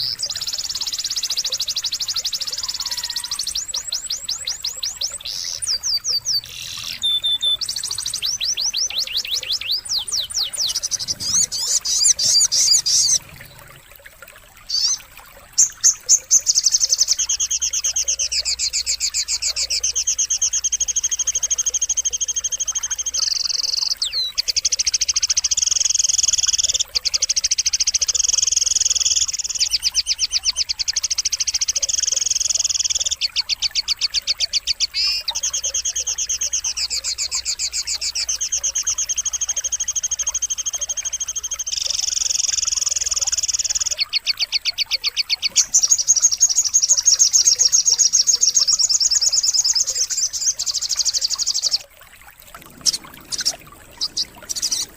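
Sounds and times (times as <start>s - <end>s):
bird song with buzzy trills: 0.0s - 13.8s, 14.6s - 51.8s, 52.7s - 54.9s.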